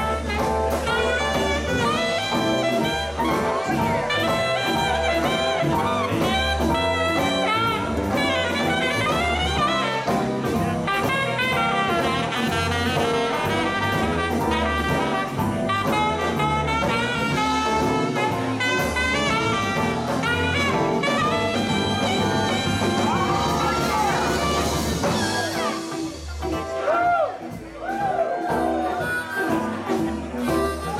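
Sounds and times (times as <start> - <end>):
saxophone: 0.0 - 27.6, 28.5 - 30.9
drums: 0.0 - 30.9.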